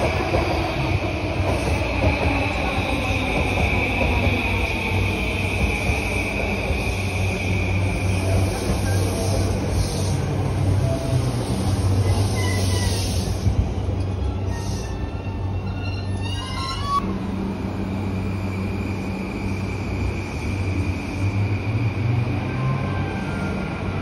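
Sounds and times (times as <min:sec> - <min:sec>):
train wheels and motors rumbling: 0:00.0 - 0:24.0.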